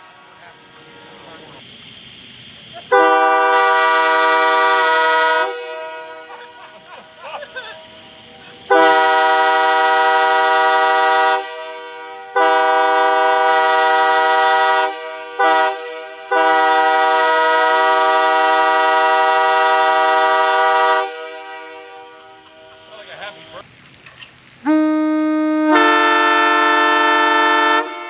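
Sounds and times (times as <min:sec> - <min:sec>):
locomotive air horn blasts: 0:00.0 - 0:01.6, 0:02.9 - 0:06.9, 0:08.6 - 0:23.6, 0:24.6 - 0:28.0.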